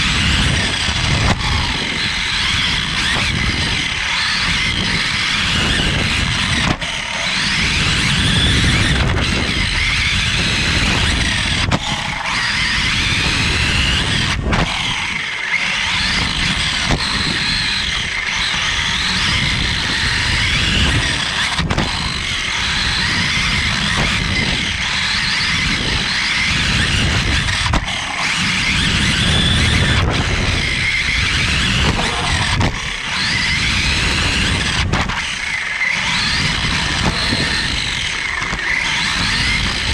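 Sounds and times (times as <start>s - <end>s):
electric motor whining: 0.0s - 39.9s
tyres rumbling and rattling on dirt: 0.0s - 39.9s.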